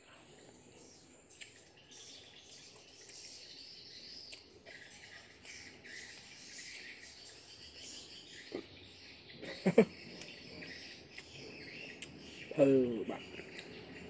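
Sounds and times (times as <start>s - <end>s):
bird chirps: 0.4s - 14.0s.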